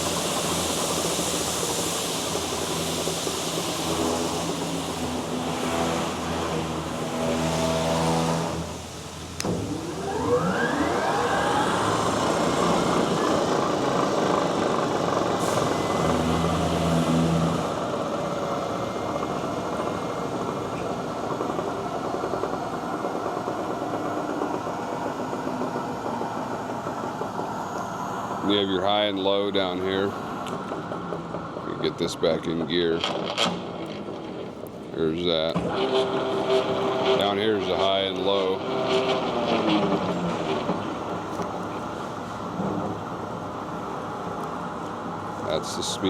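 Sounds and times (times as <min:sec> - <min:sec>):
lathe running: 0:00.0 - 0:46.0.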